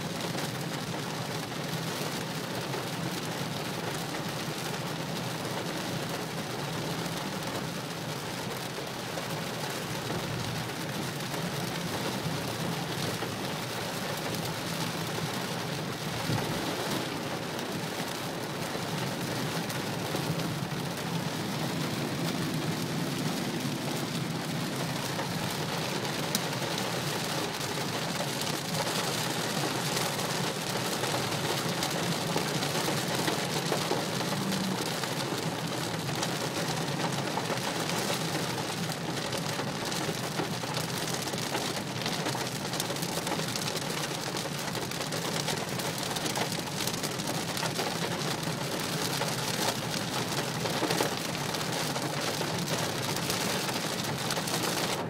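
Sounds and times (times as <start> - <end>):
heavy rain drumming on car roof: 0.0 - 55.0
road noise hum: 4.9 - 55.0.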